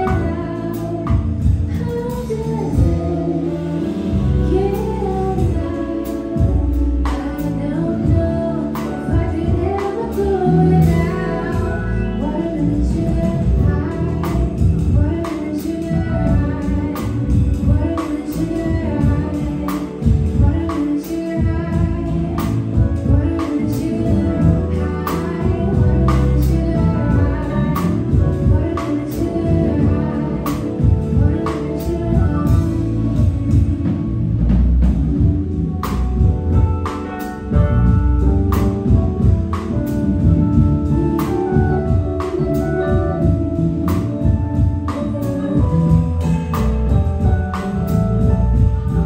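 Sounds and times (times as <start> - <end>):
woman singing: 0.0 - 34.4, 35.1 - 49.0
drum kit beat: 0.0 - 49.0
guitar: 0.0 - 49.0
keyboard: 0.0 - 49.0.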